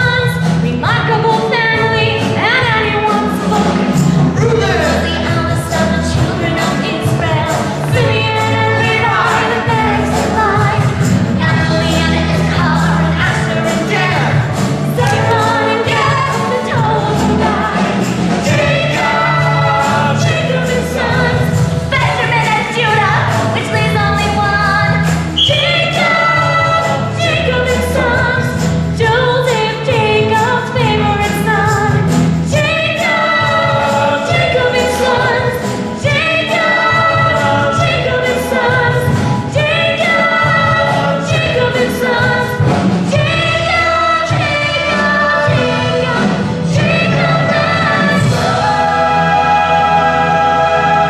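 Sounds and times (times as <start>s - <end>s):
chorus singing with accompaniment: 0.0s - 51.0s.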